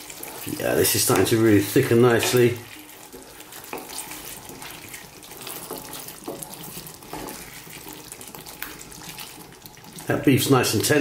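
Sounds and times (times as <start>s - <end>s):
spatula scraping and knocking pan: 0.0s - 10.1s
spatula stirring thick sauce: 0.0s - 11.0s.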